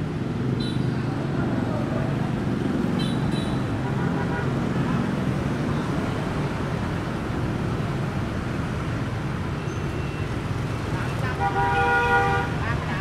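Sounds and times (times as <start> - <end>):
busy road traffic rumble: 0.0 - 13.0.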